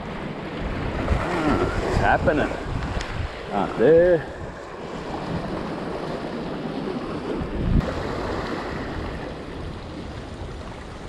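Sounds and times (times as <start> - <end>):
surf washing against pier: 0.0 - 11.0
wind buffeting microphone: 0.0 - 11.0.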